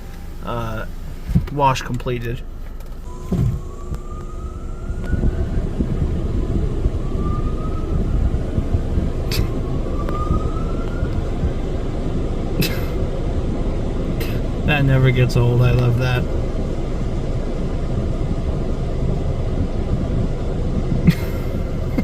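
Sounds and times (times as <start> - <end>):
car wash machinery and spray: 0.0 - 22.0
rising machine whine: 3.0 - 22.0.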